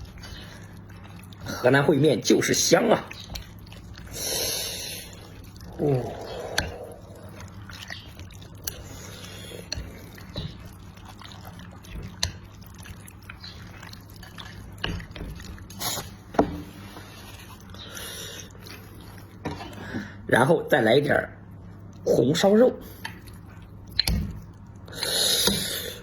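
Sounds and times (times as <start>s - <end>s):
slurping and chewing noodles: 0.0s - 20.0s, 22.8s - 26.0s.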